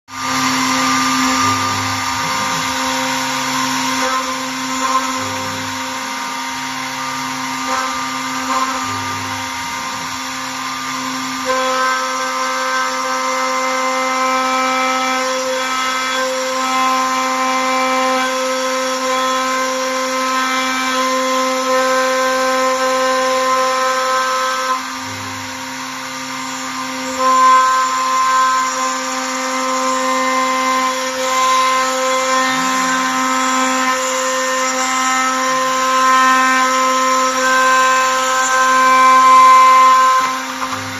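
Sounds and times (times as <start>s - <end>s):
router spindle whining cutting wood: 0.1s - 40.9s.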